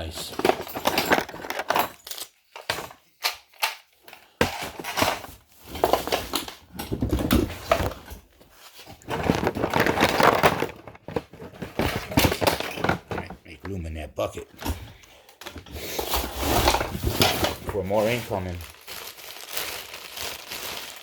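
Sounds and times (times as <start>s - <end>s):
parts clattering and rustling: 0.0s - 13.8s, 14.6s - 21.0s.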